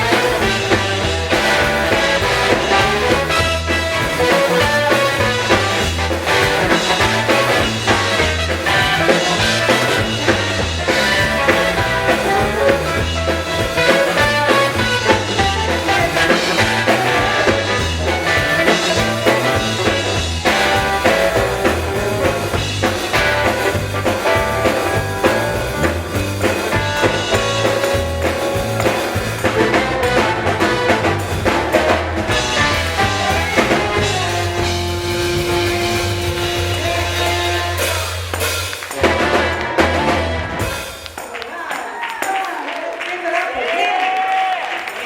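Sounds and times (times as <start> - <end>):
repeating bass line: 0.0 - 40.8
drum kit: 0.0 - 41.5
gospel band playing: 0.0 - 42.4.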